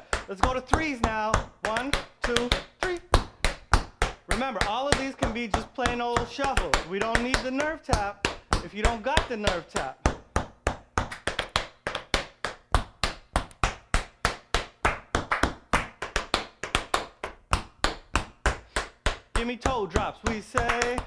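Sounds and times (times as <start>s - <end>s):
tap shoes on wooden floor: 0.0s - 21.0s.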